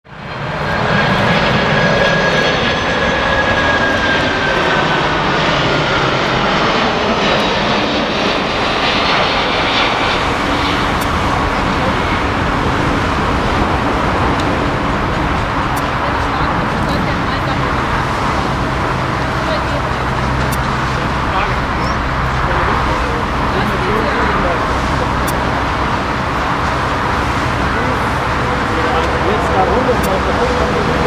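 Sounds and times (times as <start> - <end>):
jet engine roar: 0.0 - 31.0
high whine falling in pitch: 0.3 - 31.0.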